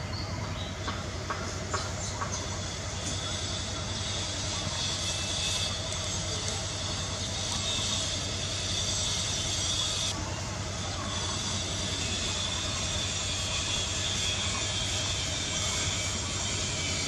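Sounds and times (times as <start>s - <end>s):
continuous hiss: 0.0s - 17.0s
thin high drone: 2.1s - 17.0s.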